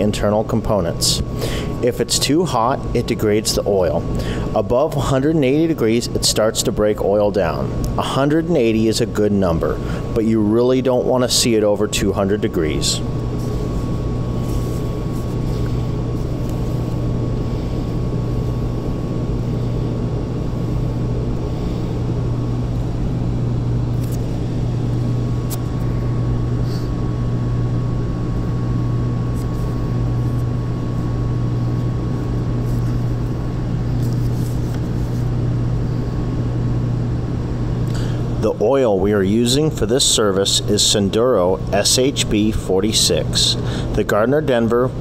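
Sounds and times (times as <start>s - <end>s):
industrial machinery humming: 0.0s - 45.0s.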